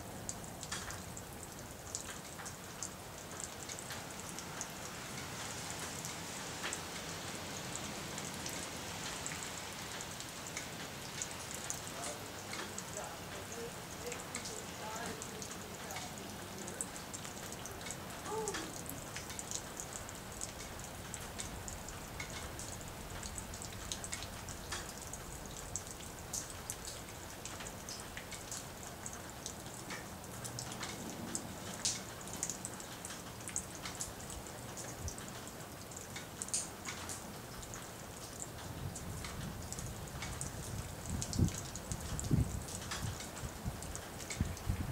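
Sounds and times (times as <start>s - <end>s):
raindrops ticking close by: 0.0s - 44.9s
steady rain falling: 0.0s - 44.9s.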